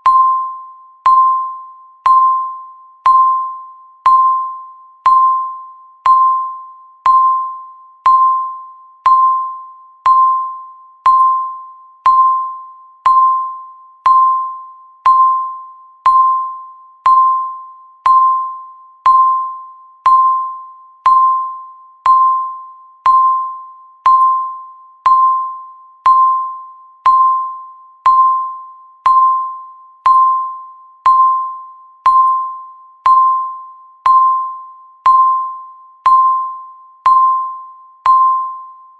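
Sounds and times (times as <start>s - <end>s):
timer ticking pings: 0.0s - 38.9s.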